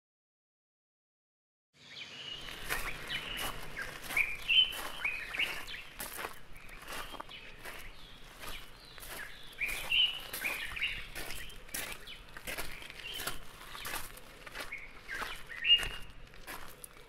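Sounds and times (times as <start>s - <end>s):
birds chirping: 1.8s - 17.0s.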